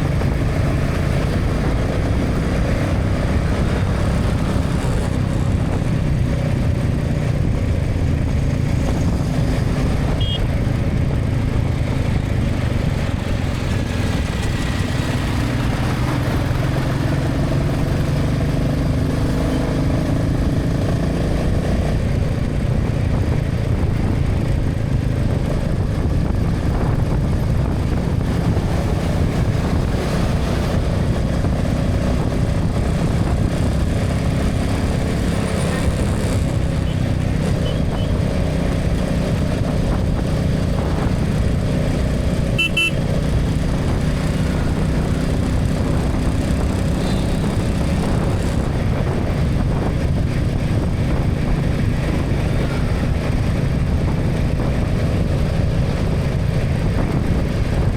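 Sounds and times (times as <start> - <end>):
motorcycle engine rumble: 0.0 - 57.9
road noise: 0.0 - 57.9
traffic passing: 0.0 - 57.9.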